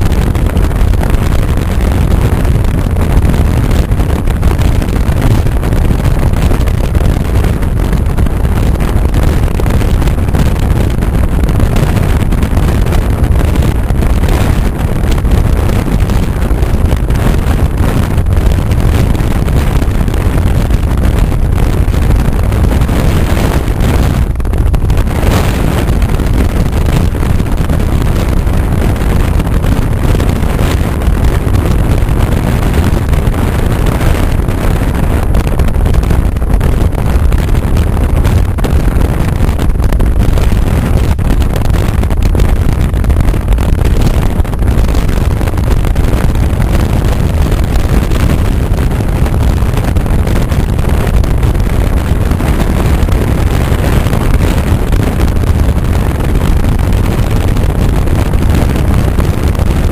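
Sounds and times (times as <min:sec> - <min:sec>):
engine and road noise rumble: 0:00.0 - 0:59.9
wind buffeting microphone: 0:00.0 - 0:59.9.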